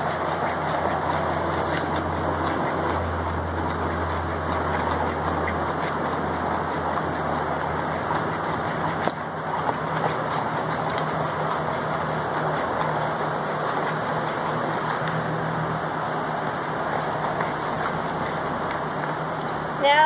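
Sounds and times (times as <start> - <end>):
machine drone: 0.0 - 19.9.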